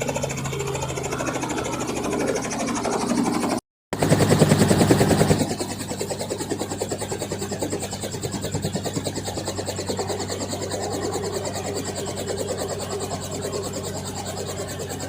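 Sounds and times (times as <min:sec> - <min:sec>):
helicopter rotor beat: 0:00.0 - 0:15.0.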